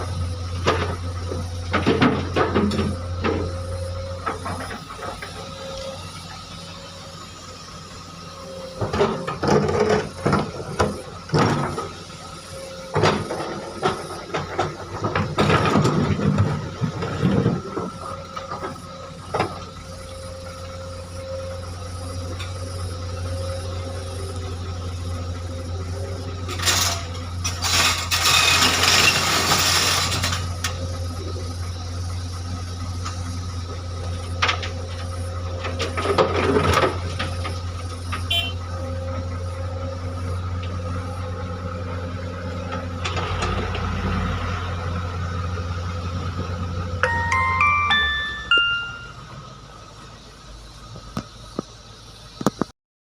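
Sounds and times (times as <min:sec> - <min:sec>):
excavator engine running: 0:00.0 - 0:52.7.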